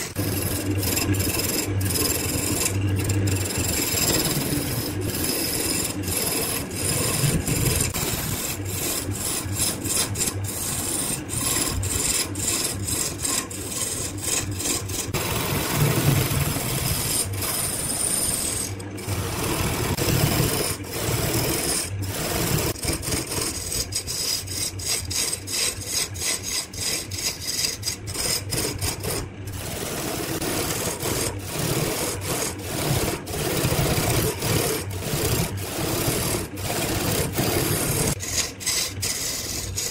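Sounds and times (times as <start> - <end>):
chisel scraping wood on lathe: 0.0 - 39.9
low motor hum: 0.0 - 39.9.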